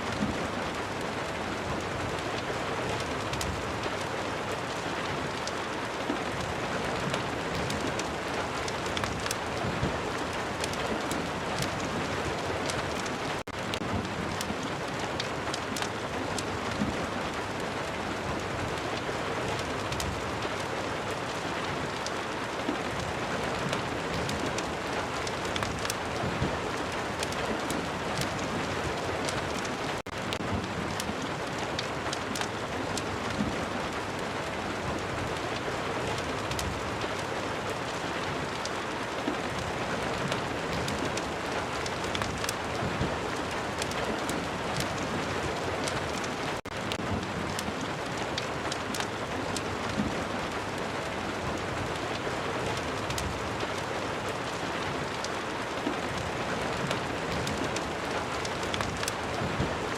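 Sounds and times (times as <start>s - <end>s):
crackling fireplace: 0.0s - 59.9s
steady rain: 0.0s - 59.9s.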